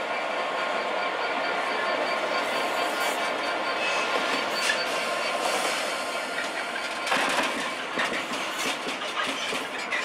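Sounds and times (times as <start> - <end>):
diesel locomotive passing: 0.0 - 10.0
wheels clattering on rails: 0.0 - 10.0.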